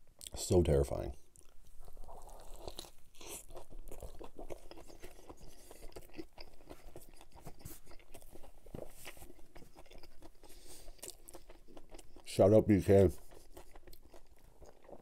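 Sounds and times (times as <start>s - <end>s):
wet open-mouthed chewing: 1.3s - 12.4s, 13.0s - 15.0s.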